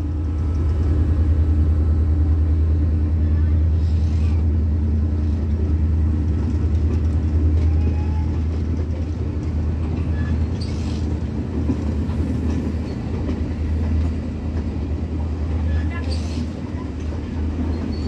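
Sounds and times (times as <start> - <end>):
train carriages rumbling past: 0.0 - 18.0.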